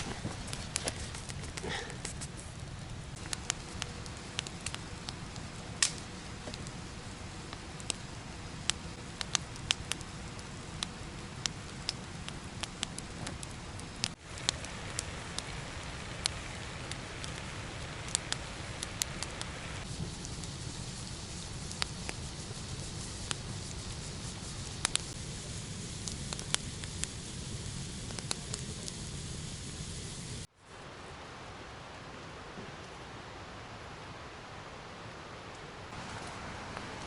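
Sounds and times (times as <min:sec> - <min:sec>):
campfire crackling and popping: 0:00.0 - 0:30.5, 0:35.9 - 0:37.0.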